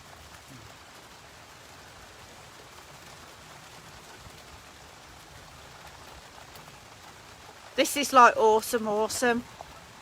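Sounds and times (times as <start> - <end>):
rain falling steadily: 0.0 - 10.0.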